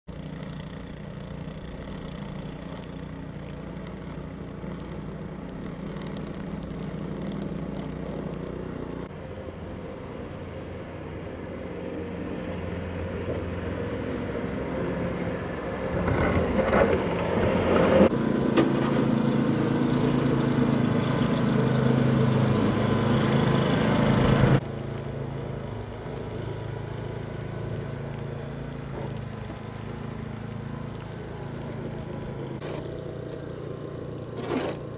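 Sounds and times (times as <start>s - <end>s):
quieter engine hum: 0.1s - 34.9s
vehicle engines running: 0.1s - 34.9s.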